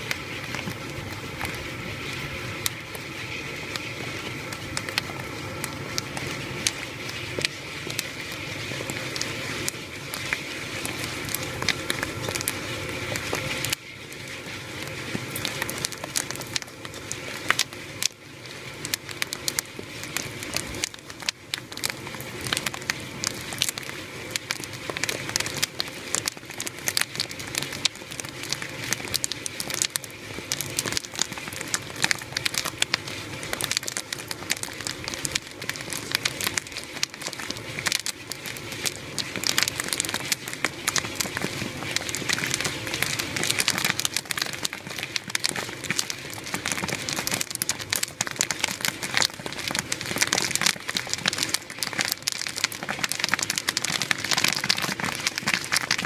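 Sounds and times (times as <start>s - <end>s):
corn kernels popping: 0.0s - 56.0s
steady hiss: 0.0s - 56.0s.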